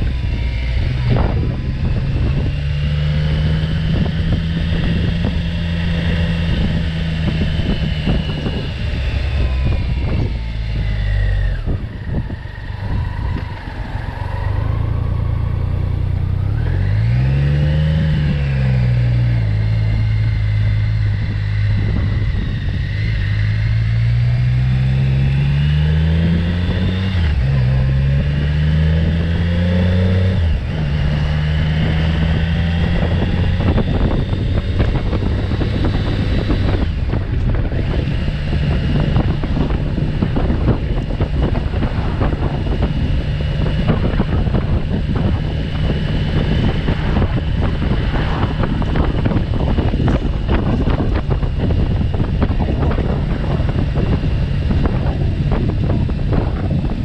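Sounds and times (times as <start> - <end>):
motorcycle engine accelerating: 0.0 - 57.0
wind buffeting microphone: 0.0 - 57.0.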